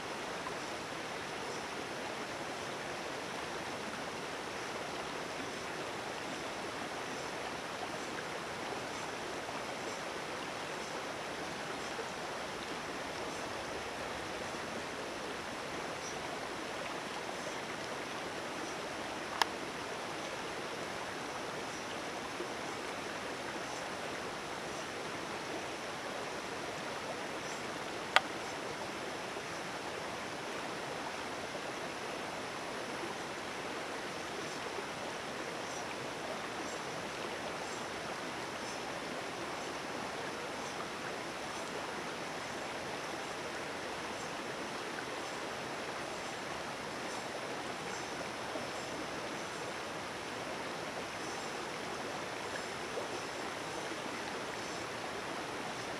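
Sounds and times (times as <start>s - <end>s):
creek water rushing: 0.0s - 55.9s.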